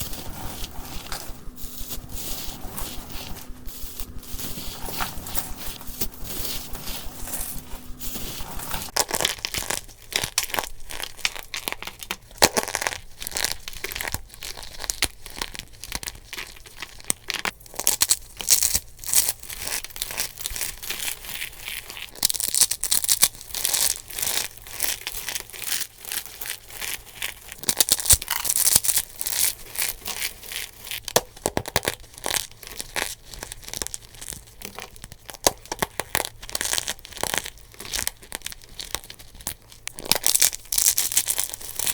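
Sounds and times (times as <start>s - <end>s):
soap crackling as crushed: 0.0s - 41.9s.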